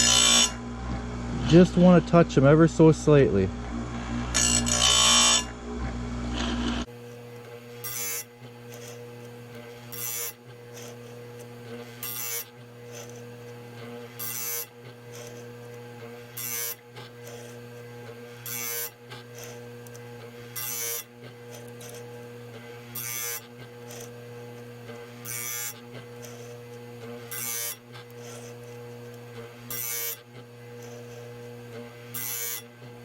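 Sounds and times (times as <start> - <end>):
sharpener motor humming: 0.0 - 33.0
grinding wheel on chain tooth: 4.0 - 33.0.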